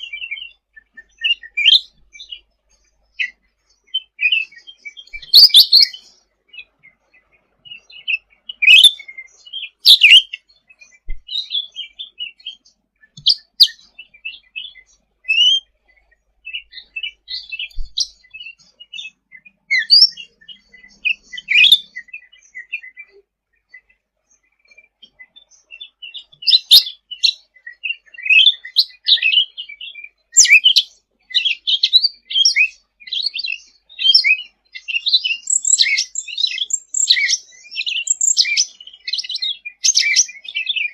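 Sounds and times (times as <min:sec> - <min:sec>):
bird chirps and trills: 0:00.0 - 0:40.9.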